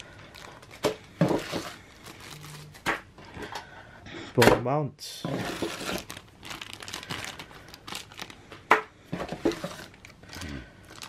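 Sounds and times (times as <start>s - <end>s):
plastic bags crinkling: 0.0s - 3.3s, 5.2s - 11.0s.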